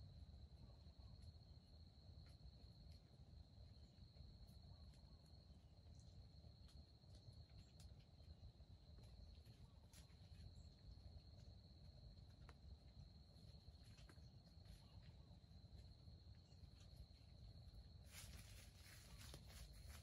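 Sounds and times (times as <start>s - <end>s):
faint ticks and rustles: 0.0s - 20.0s.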